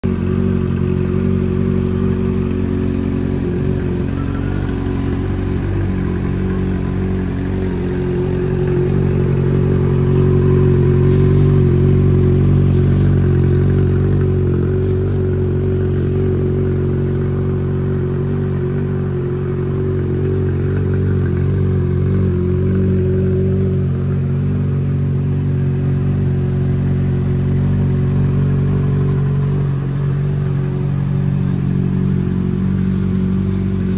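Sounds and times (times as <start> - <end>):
motorcycle engine idling: 0.0 - 33.9
faint hisses: 3.0 - 13.7, 14.6 - 15.4, 18.0 - 33.9.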